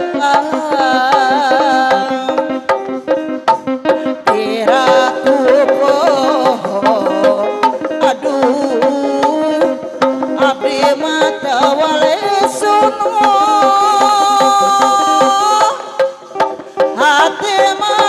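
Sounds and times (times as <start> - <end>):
hand drum strokes: 0.0 - 18.0.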